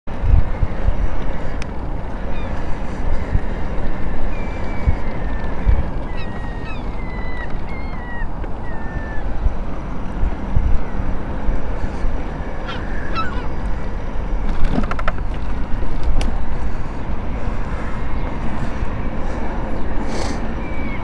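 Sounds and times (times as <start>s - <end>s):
wind rumbling on microphone: 0.1s - 21.0s.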